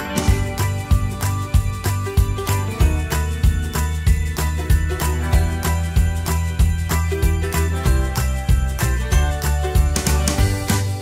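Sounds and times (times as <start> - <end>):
background music with jingling percussion: 0.0 - 11.0.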